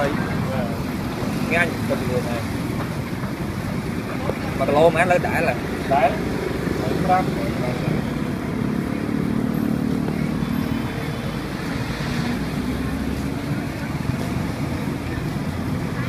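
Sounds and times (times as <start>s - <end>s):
motorbike engines running: 0.0s - 16.0s
street traffic noise: 0.0s - 16.0s.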